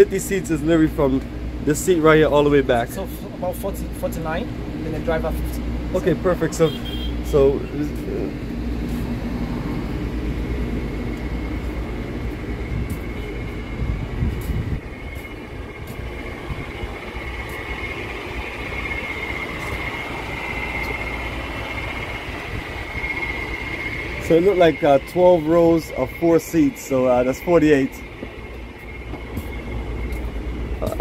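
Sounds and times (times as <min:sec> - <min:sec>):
air conditioning hiss: 0:00.0 - 0:31.0
coach engine idling: 0:00.0 - 0:31.0.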